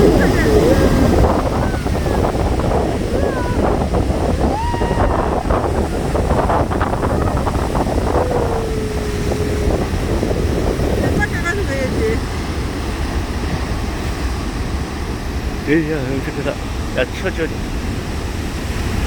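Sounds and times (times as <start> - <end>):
sea waves breaking: 0.0 - 19.0
surf washing up shore: 0.0 - 19.0
wind buffeting microphone: 0.0 - 19.0.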